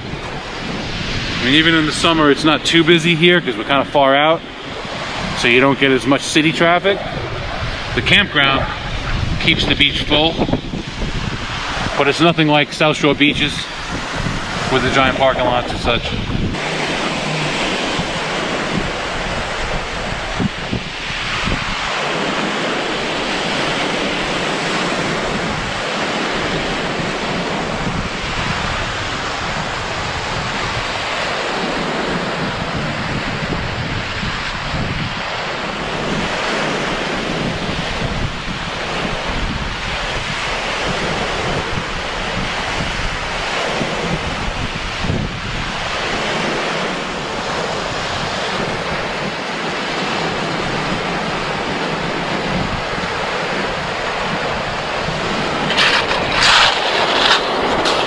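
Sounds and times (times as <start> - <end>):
small waves breaking on sand: 0.0 - 58.0
wind buffeting microphone: 0.0 - 58.0.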